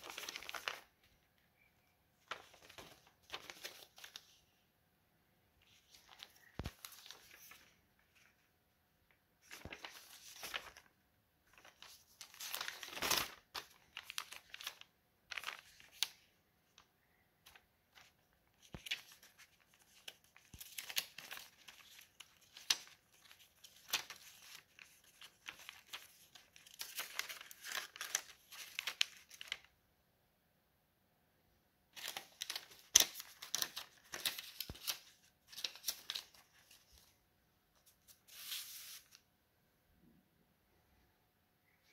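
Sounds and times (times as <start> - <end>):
paper rustling and crinkling: 0.0 - 1.4, 2.2 - 4.6, 5.6 - 8.5, 9.4 - 29.7, 32.0 - 37.2, 37.8 - 39.2.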